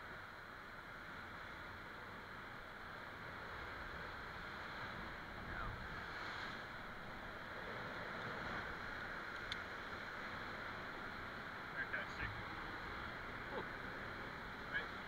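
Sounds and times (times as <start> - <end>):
wind: 0.0 - 15.0
surf rushing: 2.8 - 15.0.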